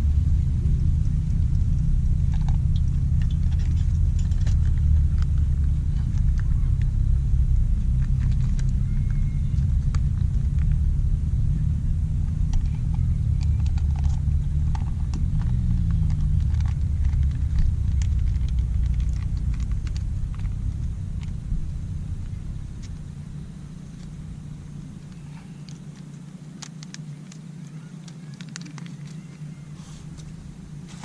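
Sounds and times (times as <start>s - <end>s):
motorcycle engine rumbling: 0.0s - 31.0s.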